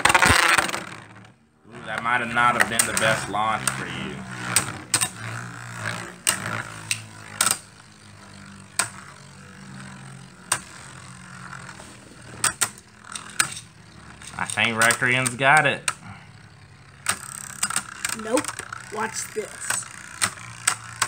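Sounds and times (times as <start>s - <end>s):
spinning tops clacking: 0.0s - 21.0s
spinning tops whirring: 0.0s - 21.0s.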